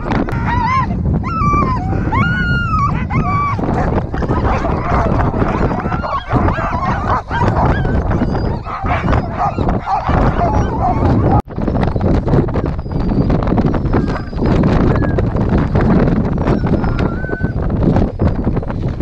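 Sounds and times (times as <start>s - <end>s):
wind rumbling on microphone: 0.0s - 19.0s
sled dogs yelping and howling: 0.1s - 18.6s.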